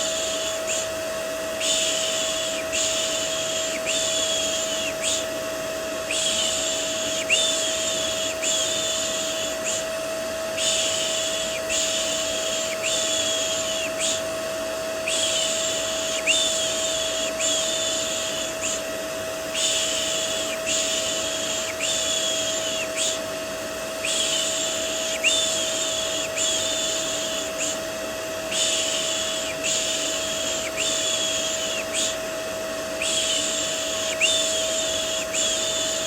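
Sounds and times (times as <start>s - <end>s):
vacuum cleaner drone: 0.0s - 36.0s.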